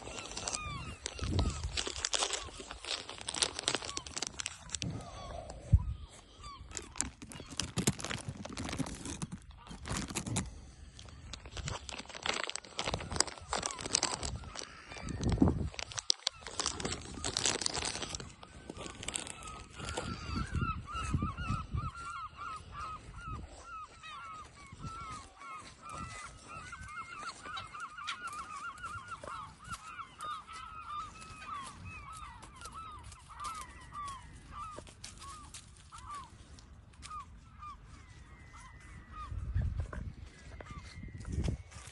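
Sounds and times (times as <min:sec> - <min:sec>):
waterfowl calling: 0:00.0 - 0:07.6, 0:10.5 - 0:41.0.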